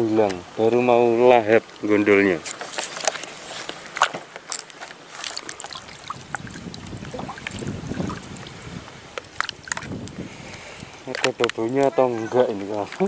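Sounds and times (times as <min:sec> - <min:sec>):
low rumble of moving water: 0:00.0 - 0:13.0
river water lapping and splashing: 0:00.0 - 0:13.0.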